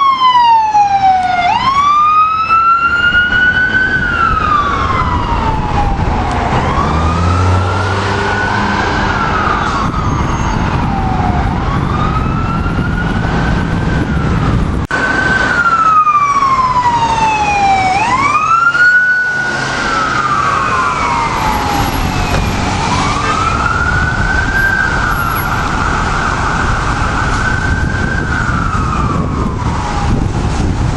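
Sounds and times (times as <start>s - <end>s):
engine and road rumble: 0.0s - 30.9s
sirens wailing: 0.0s - 30.9s.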